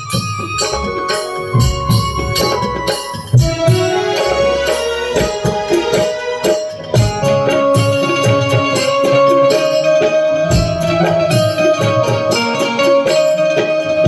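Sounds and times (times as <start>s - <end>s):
drum beat: 0.0s - 13.3s
tambourine-like percussion: 0.0s - 13.8s
keyboard melody: 0.0s - 14.0s.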